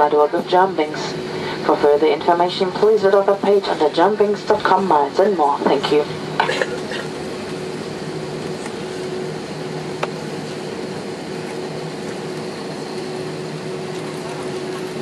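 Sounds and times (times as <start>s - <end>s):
aircraft cabin hum: 0.0s - 15.0s.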